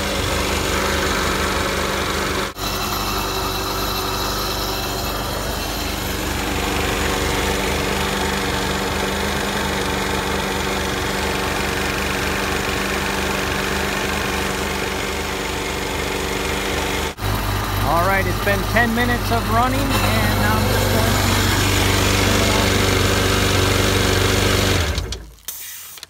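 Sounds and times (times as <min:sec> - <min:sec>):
jet ski engine idling: 0:00.0 - 0:25.2.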